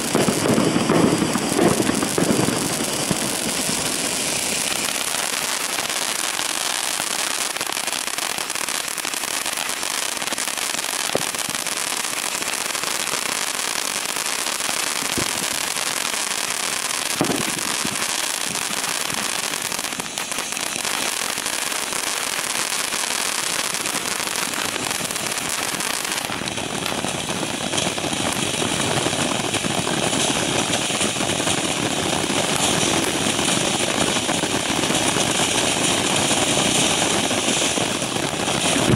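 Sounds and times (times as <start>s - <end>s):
firework crackling and pops: 0.0s - 38.9s
firework fountain hissing sparks: 0.0s - 38.9s.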